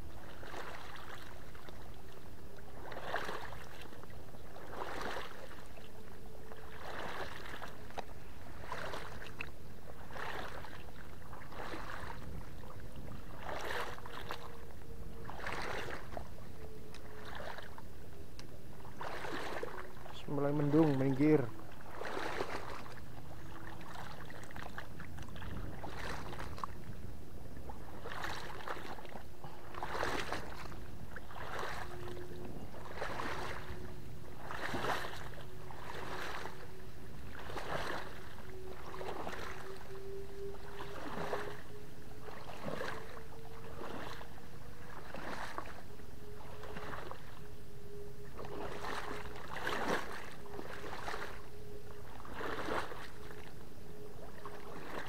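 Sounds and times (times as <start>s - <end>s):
faint steady hum: 0.0s - 55.0s
paddle strokes in water: 0.0s - 55.0s.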